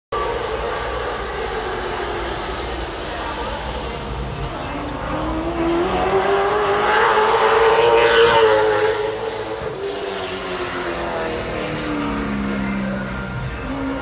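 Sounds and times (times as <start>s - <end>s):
race car engine passing: 0.2s - 14.0s.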